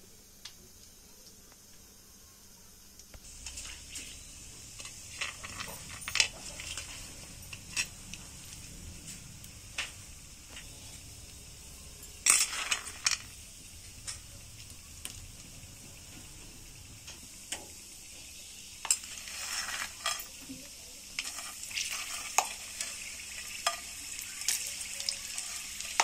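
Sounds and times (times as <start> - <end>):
nuts sizzling in hot oil: 0.0 - 26.0.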